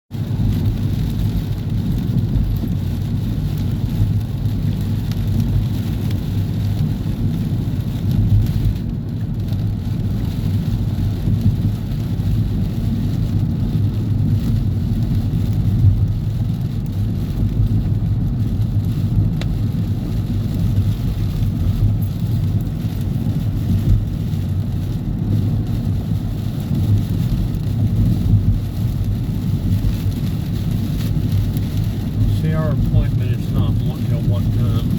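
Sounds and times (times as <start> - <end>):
rain: 0.1 - 34.9
wind: 0.1 - 34.9.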